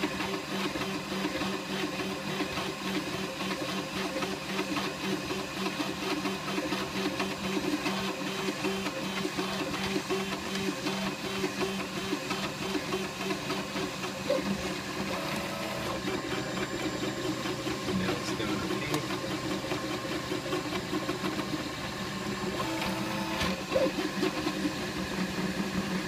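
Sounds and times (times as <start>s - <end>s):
printer stepper motors whirring: 0.0s - 26.0s.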